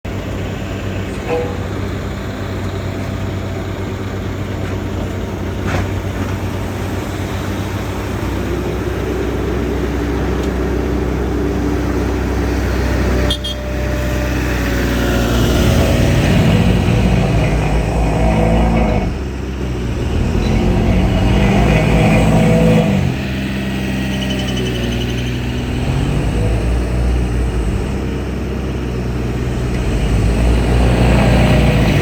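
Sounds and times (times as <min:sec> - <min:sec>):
heavy machinery engines humming: 0:00.1 - 0:32.0.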